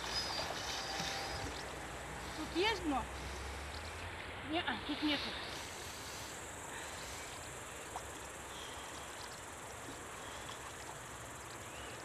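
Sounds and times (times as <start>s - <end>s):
insects chirping: 0.0s - 12.0s
outdoor hiss: 0.0s - 12.0s.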